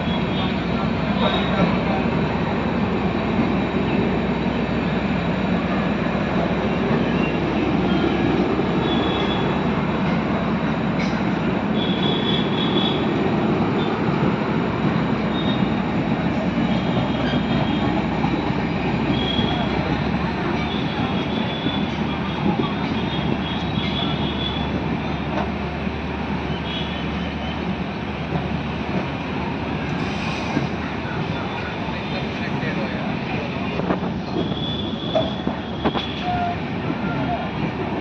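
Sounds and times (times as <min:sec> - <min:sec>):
train running on track: 0:00.0 - 0:38.0.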